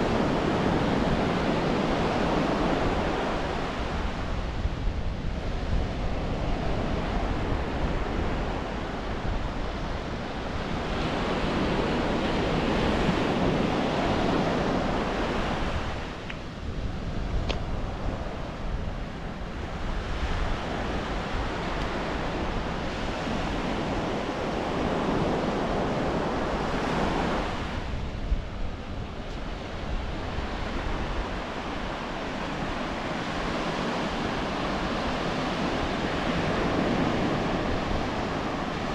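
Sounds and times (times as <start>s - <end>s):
low wind rumble on microphone: 0.0s - 38.9s
ocean waves breaking on beach: 0.0s - 38.9s.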